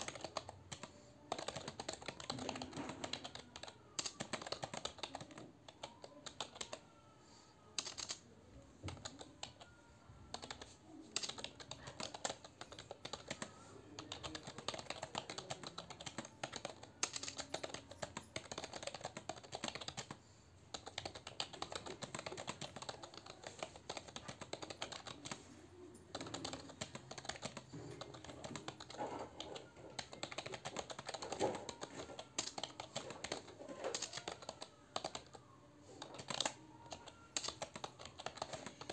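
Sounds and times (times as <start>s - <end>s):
fast typing on keyboard: 0.0s - 6.9s, 7.8s - 8.2s, 8.8s - 38.9s.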